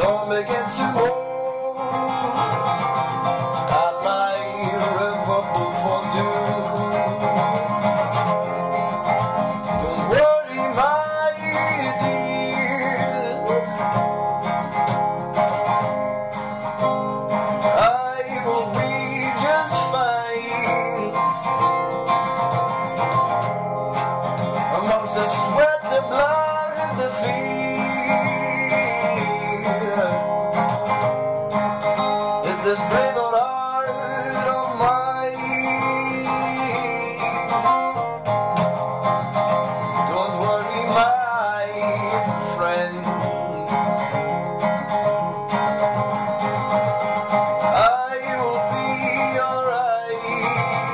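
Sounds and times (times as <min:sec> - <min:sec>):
man singing: 0:00.0 - 0:16.1, 0:17.3 - 0:22.5, 0:24.4 - 0:31.0, 0:31.8 - 0:50.9
acoustic guitar: 0:00.0 - 0:50.9.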